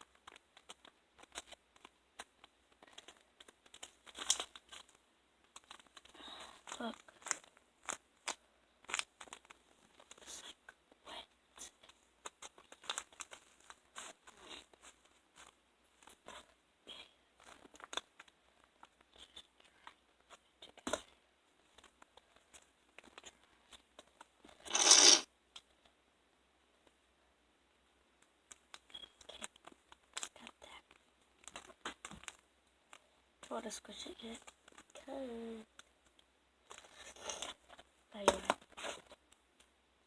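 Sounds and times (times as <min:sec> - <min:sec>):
paper crackling and crinkling: 0:00.0 - 0:10.6, 0:11.8 - 0:16.5, 0:17.4 - 0:24.6, 0:28.4 - 0:39.2.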